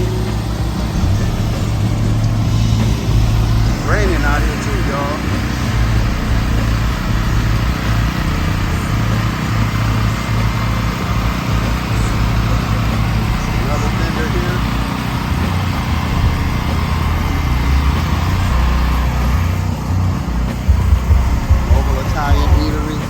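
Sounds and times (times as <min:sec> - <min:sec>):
generator engine humming: 0:00.0 - 0:23.0.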